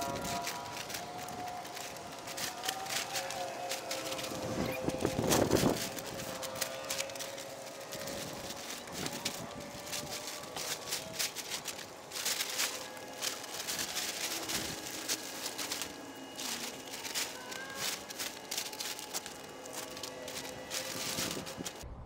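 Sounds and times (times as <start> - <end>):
plastic tarp crinkling and rustling: 0.0 - 21.8.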